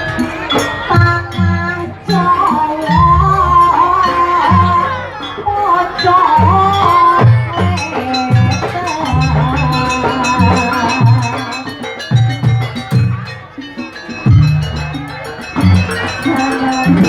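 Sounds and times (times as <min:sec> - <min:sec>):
drums beating: 0:00.0 - 0:17.0
high wavering melody: 0:00.0 - 0:17.0.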